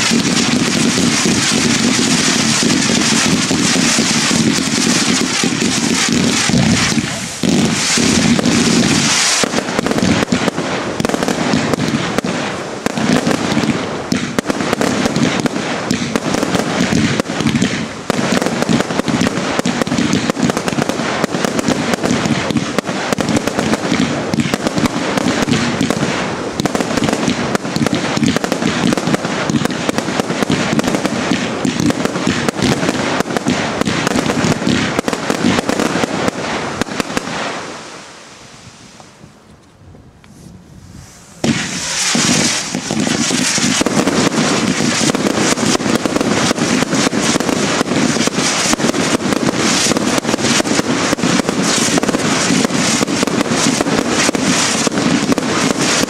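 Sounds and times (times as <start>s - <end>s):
fireworks launches and bursts: 0.0s - 39.5s, 40.3s - 56.0s.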